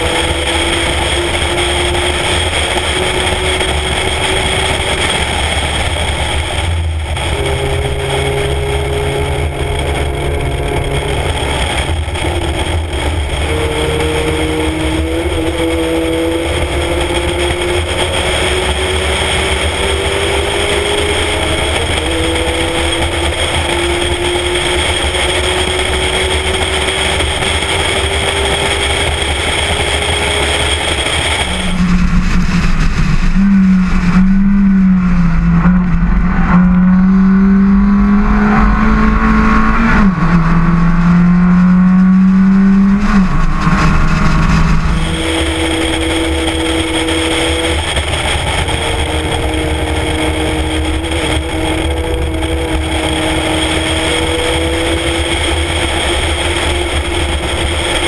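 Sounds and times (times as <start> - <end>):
race car engine pulling hard: 0.0 - 58.0
strong low drone: 0.0 - 58.0.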